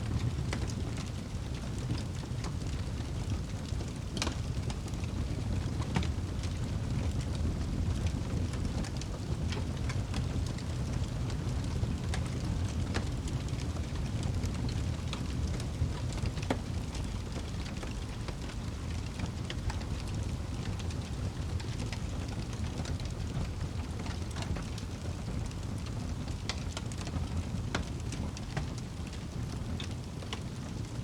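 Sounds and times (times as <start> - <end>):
fire crackling and popping: 0.0 - 31.0
fire rumbling: 0.0 - 31.0.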